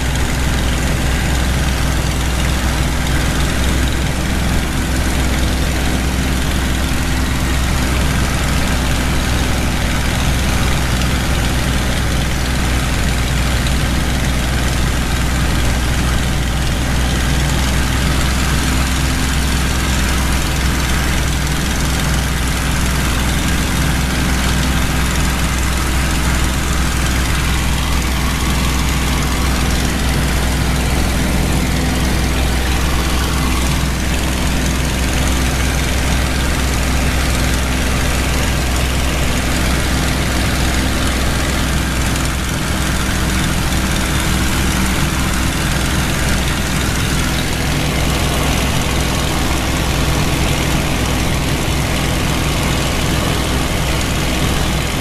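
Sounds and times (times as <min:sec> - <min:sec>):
propeller plane engine: 0:00.0 - 0:55.0
slipstream rushing: 0:00.0 - 0:55.0.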